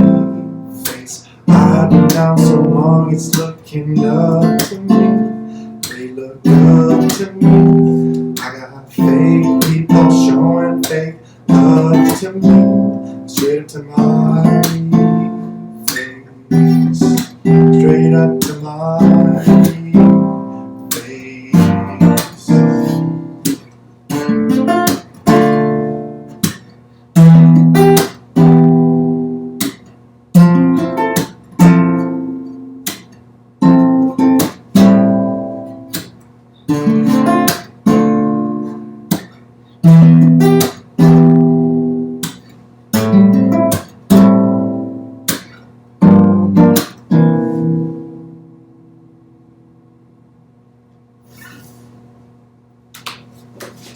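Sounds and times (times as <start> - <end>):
acoustic guitar strumming chords: 0.0 - 49.8.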